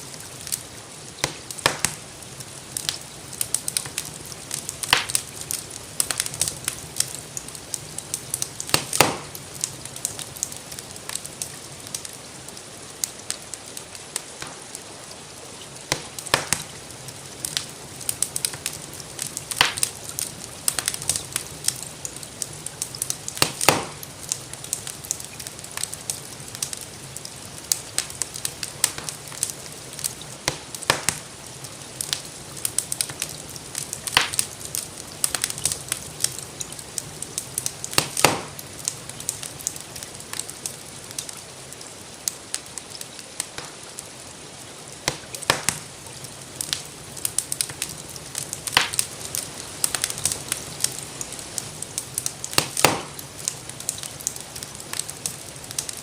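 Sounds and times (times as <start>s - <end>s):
rainfall hiss: 0.0s - 56.0s
wood fire crackling: 0.0s - 56.0s.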